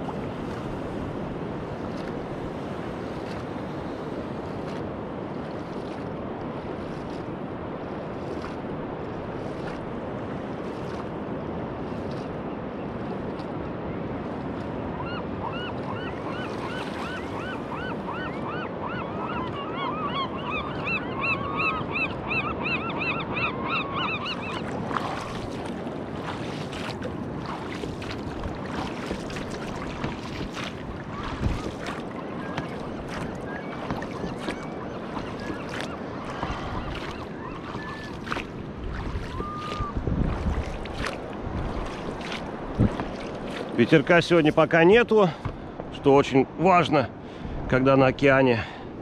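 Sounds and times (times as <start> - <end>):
water splashing from oars: 0.0 - 18.2, 24.3 - 46.1
surf noise: 0.0 - 49.0.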